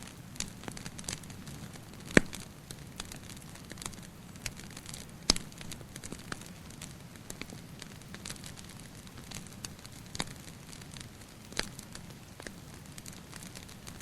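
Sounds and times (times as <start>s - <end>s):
soft steady hiss: 0.0s - 14.0s
wood fire crackling: 0.0s - 14.0s.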